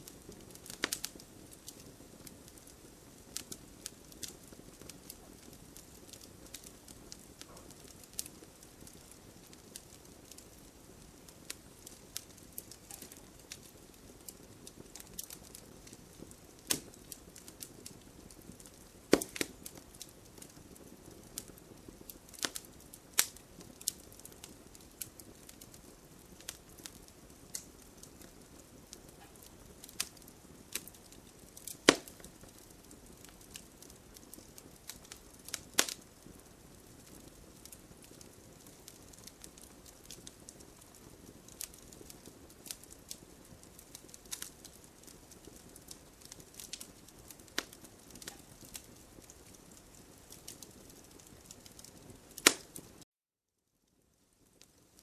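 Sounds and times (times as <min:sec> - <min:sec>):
burning wood popping: 0:00.0 - 0:53.0
campfire crackling: 0:00.0 - 0:53.0, 0:53.9 - 0:55.0
flames hissing: 0:00.0 - 0:53.0.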